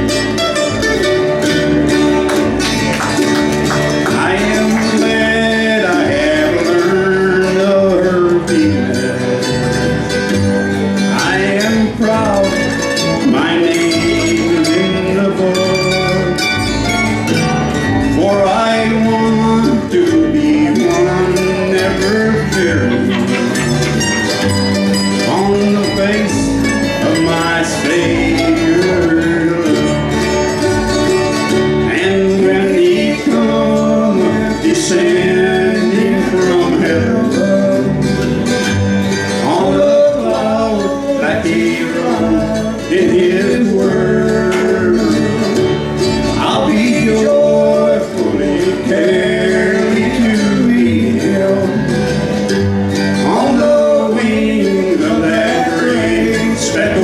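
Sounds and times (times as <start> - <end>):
bluegrass band playing: 0.0 - 57.0.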